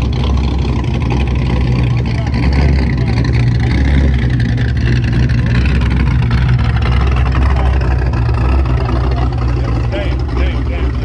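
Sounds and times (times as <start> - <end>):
car engine deep rumble: 0.0 - 11.0.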